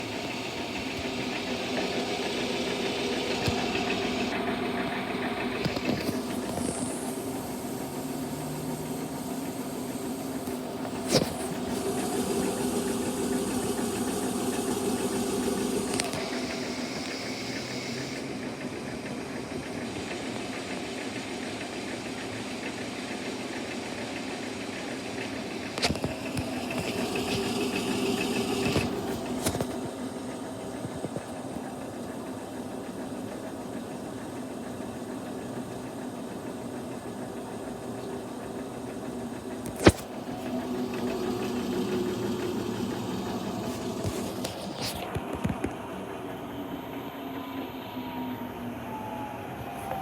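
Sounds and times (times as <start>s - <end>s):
washing machine motor hum: 0.0s - 50.0s.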